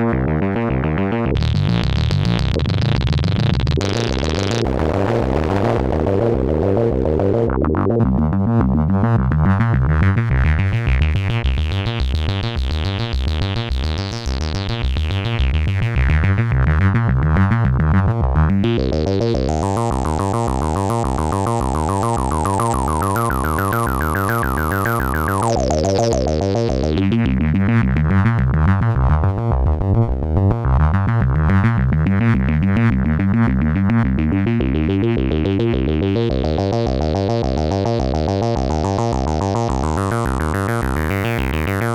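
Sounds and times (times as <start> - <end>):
synthesizer bass pattern: 0.0 - 41.9.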